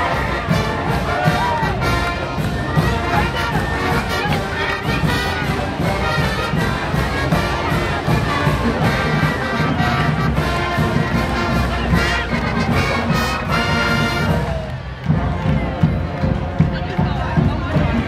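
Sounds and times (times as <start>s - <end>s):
brass band playing: 0.0s - 18.0s
crowd noise: 0.0s - 18.0s.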